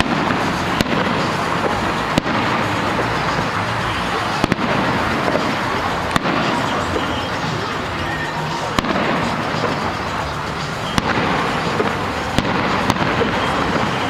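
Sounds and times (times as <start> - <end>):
background rush of noise: 0.0 - 14.0
fireworks bangs: 0.0 - 14.0.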